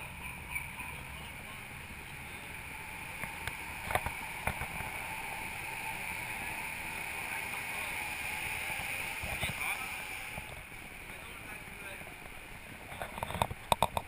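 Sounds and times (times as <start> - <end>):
sports car engine idling: 0.0 - 13.7.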